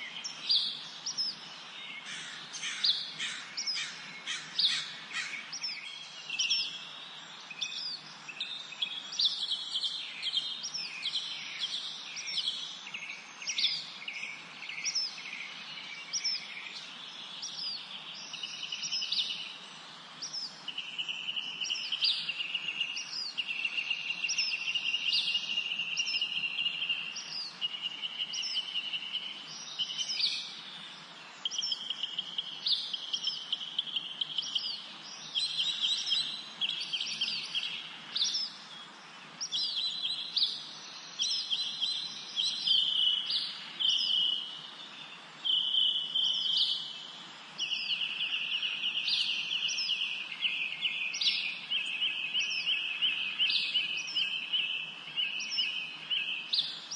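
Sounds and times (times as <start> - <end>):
faint steady hiss: 0.0 - 56.9
songbirds chirping: 0.0 - 56.9.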